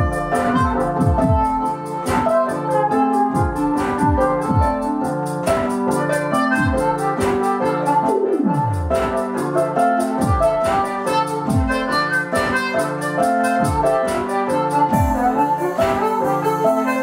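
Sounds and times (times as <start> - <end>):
harmonica playing chords: 0.0 - 17.0
steady drum beat: 0.0 - 17.0.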